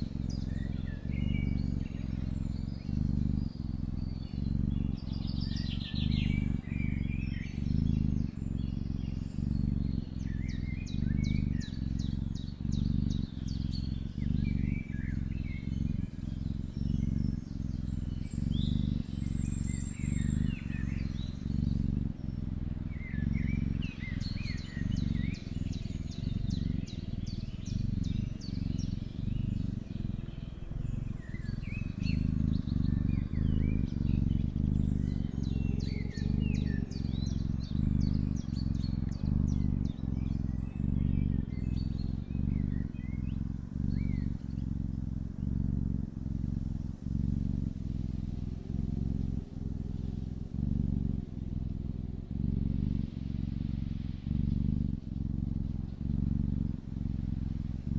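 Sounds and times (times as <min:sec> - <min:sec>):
cat purring: 0:00.0 - 0:57.9
small birds chirping: 0:00.0 - 0:57.9.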